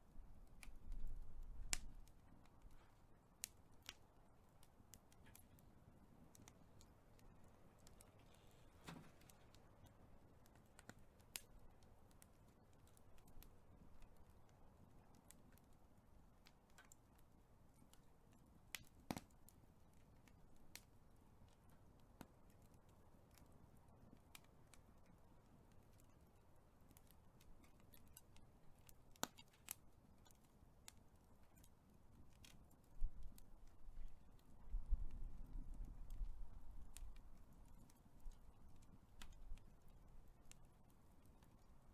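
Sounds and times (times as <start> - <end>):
fire crackling: 0.0 - 41.9.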